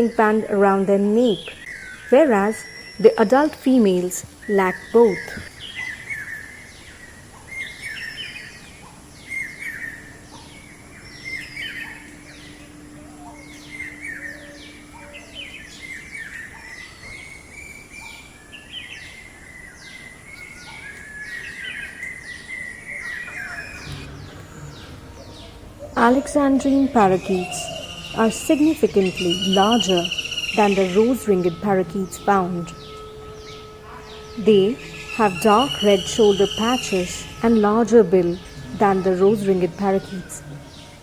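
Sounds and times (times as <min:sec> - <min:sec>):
parakeets chirping: 0:00.0 - 0:41.0.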